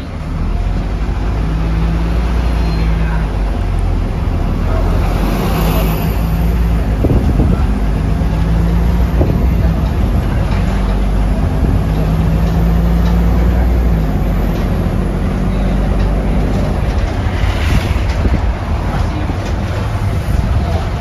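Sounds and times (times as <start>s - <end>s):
bus diesel engine running: 0.0s - 21.0s.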